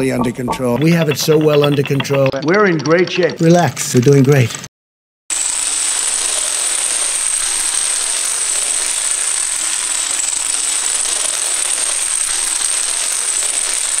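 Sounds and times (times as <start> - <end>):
dominoes toppling: 0.0 - 3.6, 5.4 - 14.0.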